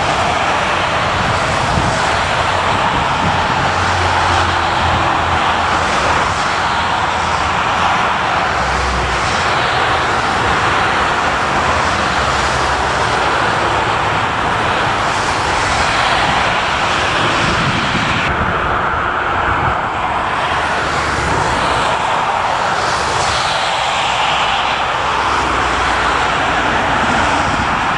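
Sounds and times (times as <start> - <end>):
jet engines roaring: 0.0 - 27.9.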